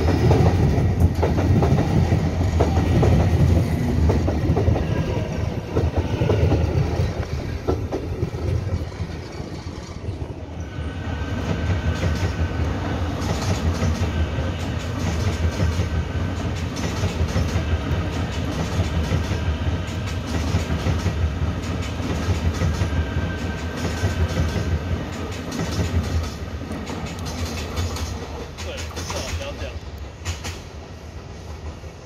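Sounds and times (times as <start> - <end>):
train rumbling past: 0.0 - 32.0.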